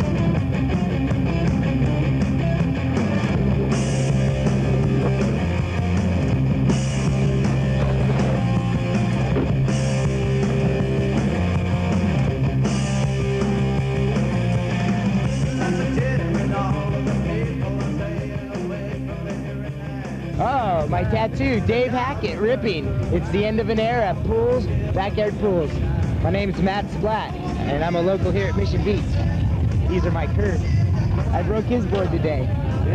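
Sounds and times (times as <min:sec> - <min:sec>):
punk rock music: 0:00.0 - 0:32.9.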